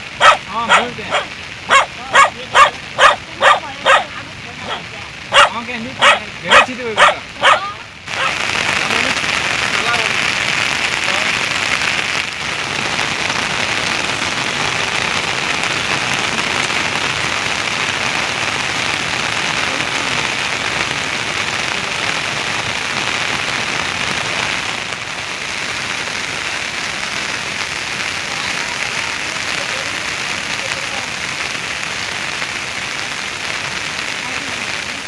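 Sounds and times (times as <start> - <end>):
heavy rain pattering: 0.0 - 35.0.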